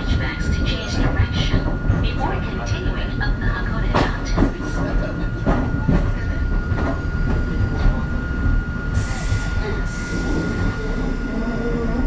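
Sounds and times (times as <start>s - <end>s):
railcar equipment rumble and whine: 0.0s - 12.0s.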